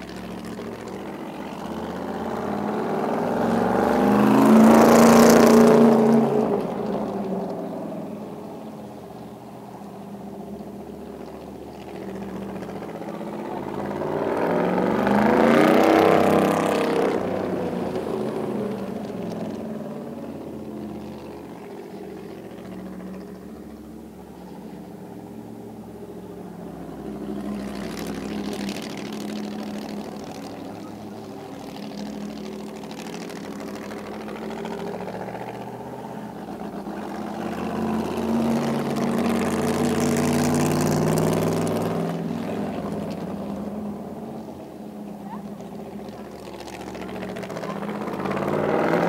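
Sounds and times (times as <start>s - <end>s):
racing car engines: 0.0s - 49.0s.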